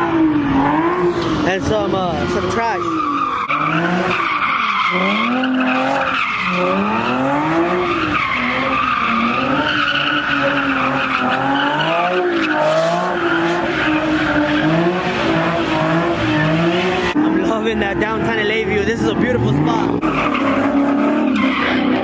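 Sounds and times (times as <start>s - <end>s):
car engine revving: 0.0s - 22.0s
tires squealing: 0.0s - 22.0s.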